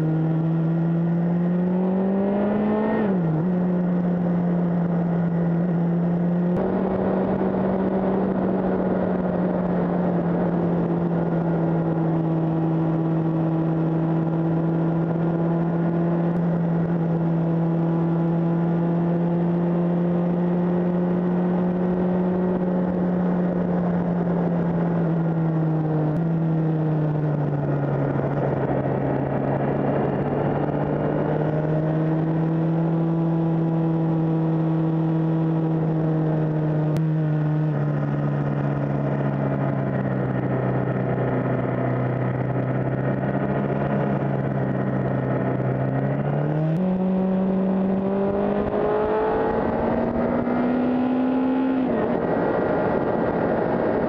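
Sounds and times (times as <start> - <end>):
motorcycle engine cruising: 0.0 - 54.0
wind noise: 0.0 - 54.0.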